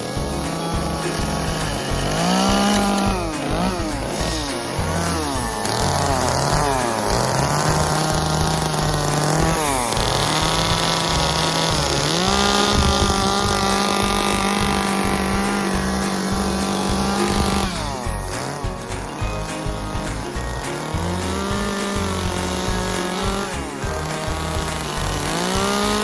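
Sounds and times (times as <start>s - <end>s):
chainsaw running at high revs: 0.0s - 26.0s.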